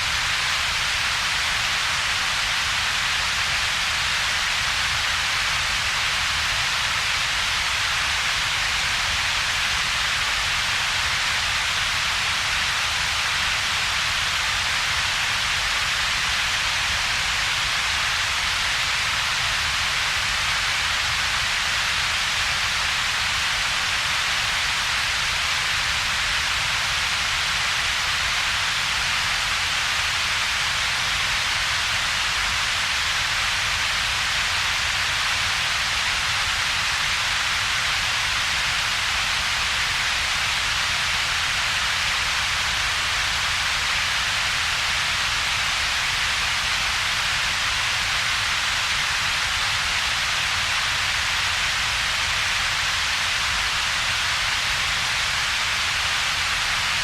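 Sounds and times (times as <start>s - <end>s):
strong synthetic hiss: 0.0s - 57.0s.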